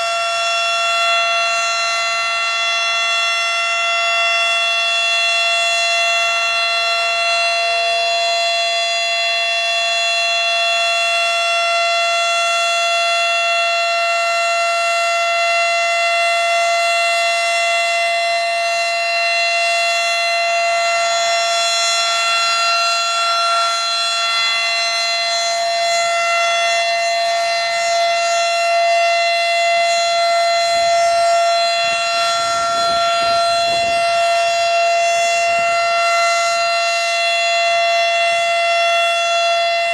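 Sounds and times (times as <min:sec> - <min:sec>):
warning siren steady pitch: 0:00.0 - 0:39.9.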